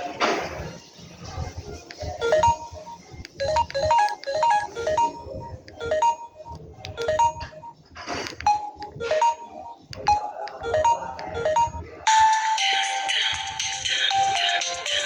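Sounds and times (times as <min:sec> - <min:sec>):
mobile phone ringtone melody: 0:02.1 - 0:07.8, 0:08.4 - 0:15.0.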